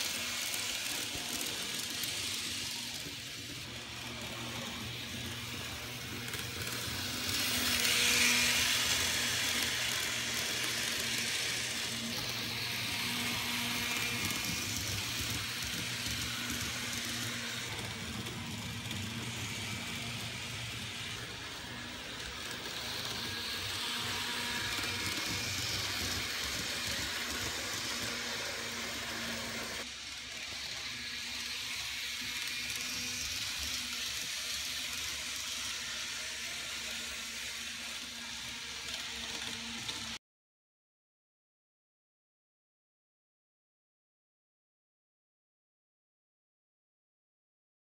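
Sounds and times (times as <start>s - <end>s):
model train wheels hissing on rail: 0.0s - 40.2s.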